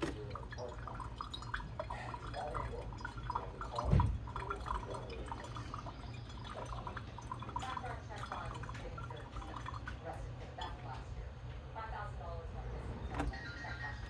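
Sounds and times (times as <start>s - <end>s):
coffee maker dripping and gurgling: 0.0s - 14.0s.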